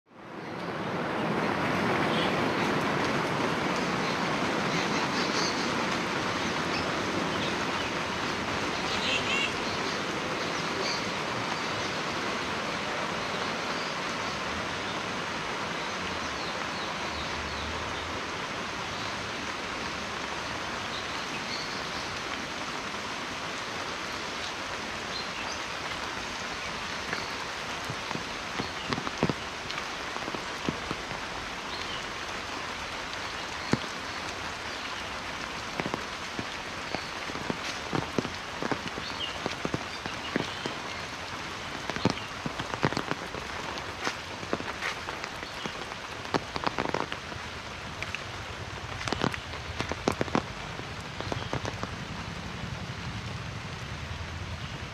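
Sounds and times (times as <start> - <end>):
heavy rain falling: 0.1 - 54.9.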